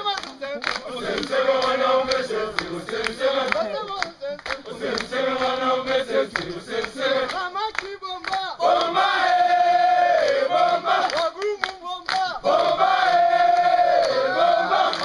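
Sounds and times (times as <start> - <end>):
group singing and shouting: 0.0 - 15.0.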